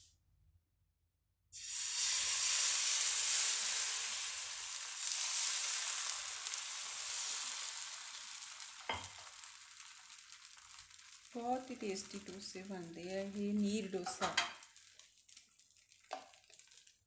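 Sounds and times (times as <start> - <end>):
batter sizzling in hot pan: 1.6 - 17.0.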